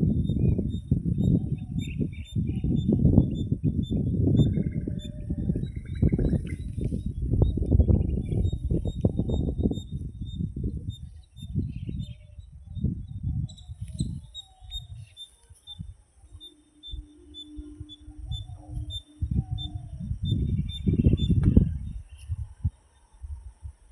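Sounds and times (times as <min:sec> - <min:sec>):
thin high pulsing call: 0:00.0 - 0:23.6
faint bird chirps: 0:00.0 - 0:23.7
wind buffeting microphone: 0:00.0 - 0:23.9.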